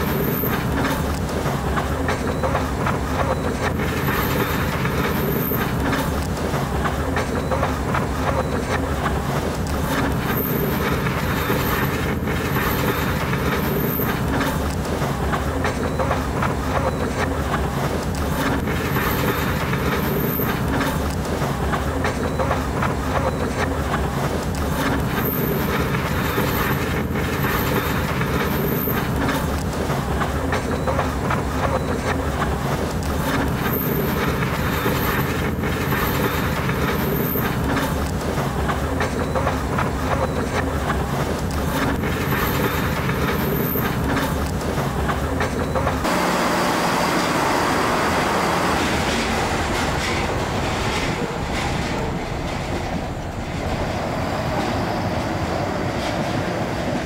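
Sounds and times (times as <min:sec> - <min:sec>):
wheel clatter: 0:00.0 - 0:46.2, 0:48.2 - 0:54.8
train rumbling on rails: 0:00.0 - 0:57.0.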